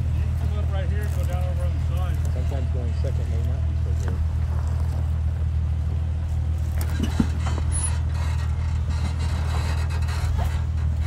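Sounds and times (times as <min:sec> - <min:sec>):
car engine running: 0:00.0 - 0:11.0
creaks and scrapes from rocks: 0:00.2 - 0:05.5, 0:06.6 - 0:11.0.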